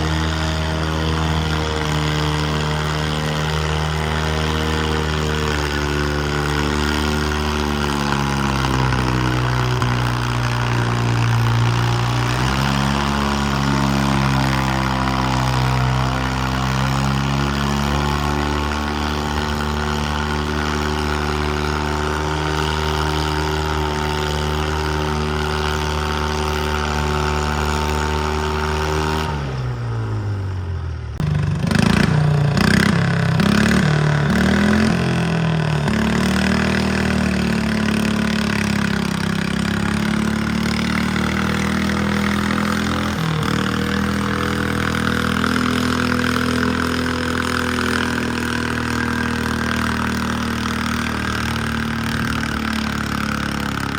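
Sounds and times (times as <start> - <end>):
engine revving unevenly: 0.0 - 53.9
garden tractor engine running: 0.0 - 53.9.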